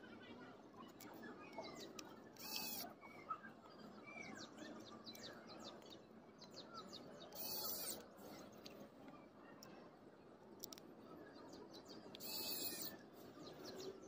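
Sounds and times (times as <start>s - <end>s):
faint bird chirps: 0.0s - 8.8s, 10.6s - 14.0s.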